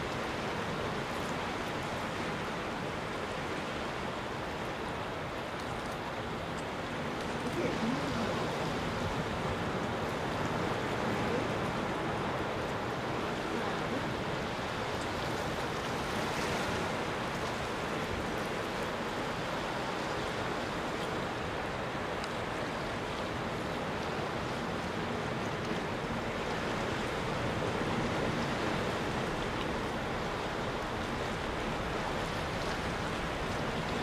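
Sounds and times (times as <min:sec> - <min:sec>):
waves washing over rocks: 0:00.0 - 0:34.0.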